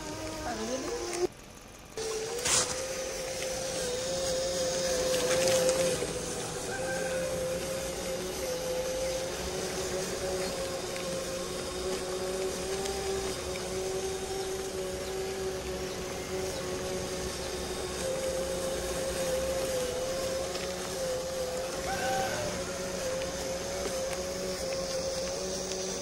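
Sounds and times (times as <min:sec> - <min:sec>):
toy truck electric motor whining: 0:00.0 - 0:26.0.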